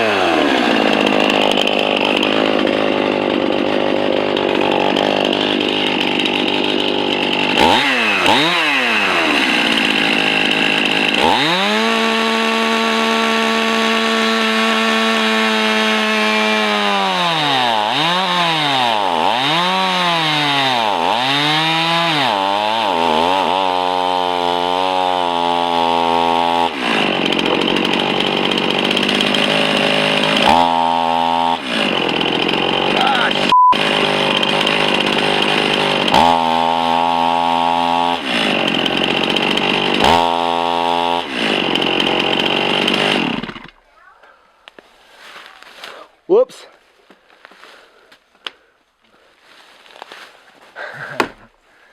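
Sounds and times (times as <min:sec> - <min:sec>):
chainsaw cutting and revving: 0:00.0 - 0:44.2.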